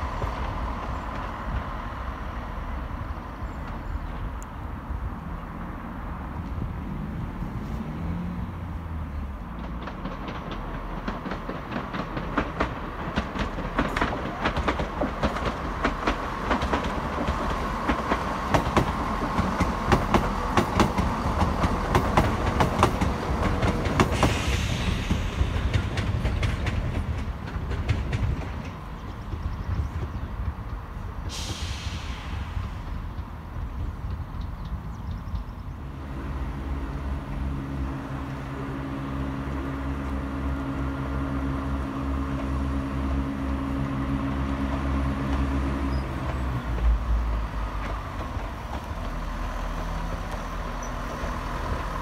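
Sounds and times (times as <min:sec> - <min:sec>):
train engine rumble: 0:00.0 - 0:52.0.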